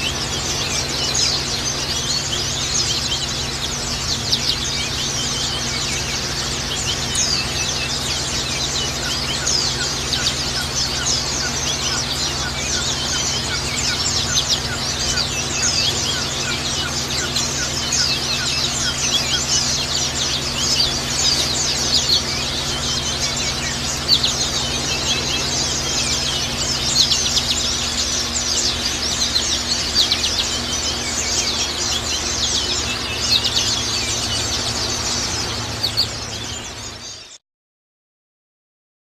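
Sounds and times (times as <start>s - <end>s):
small birds chirping: 0.0s - 37.4s.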